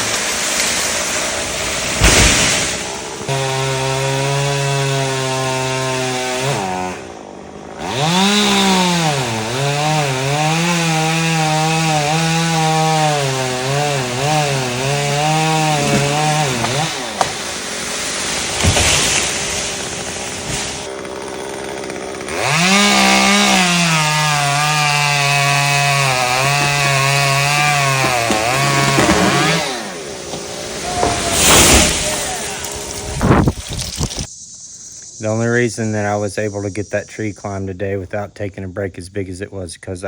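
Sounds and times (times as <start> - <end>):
chainsaw cutting wood: 0.0 - 34.3.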